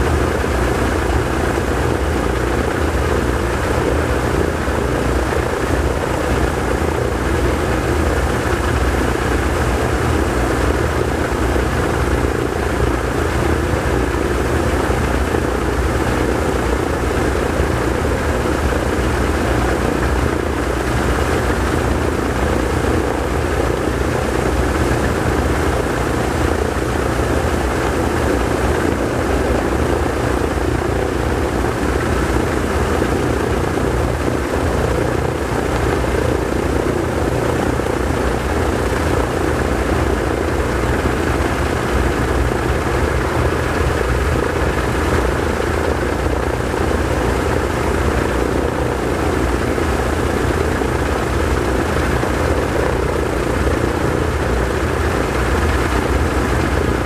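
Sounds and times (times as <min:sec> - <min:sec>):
radial aircraft engines droning: 0:00.0 - 0:57.0.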